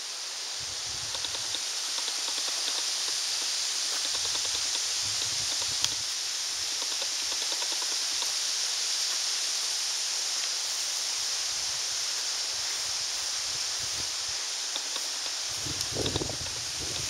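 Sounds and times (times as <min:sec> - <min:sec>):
high-pitched outdoor hiss: 0:00.0 - 0:17.0.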